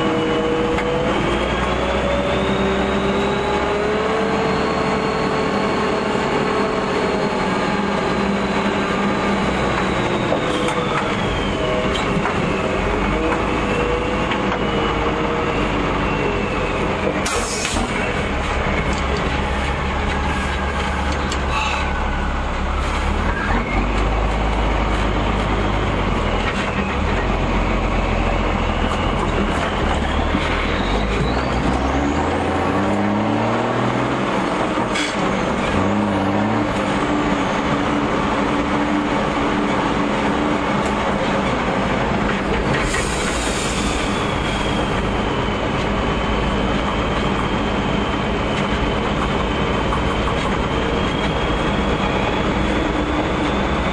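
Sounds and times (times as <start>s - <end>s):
truck engine running under load: 0.0s - 53.9s.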